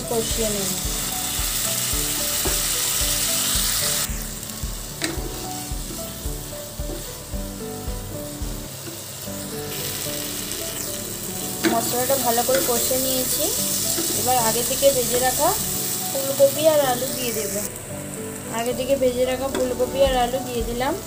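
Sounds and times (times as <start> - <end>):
paste sizzling in hot oil: 0.0 - 21.0.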